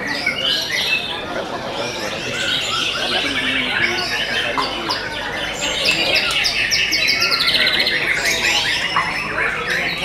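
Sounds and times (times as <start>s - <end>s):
birds singing whistled trills: 0.0s - 10.0s.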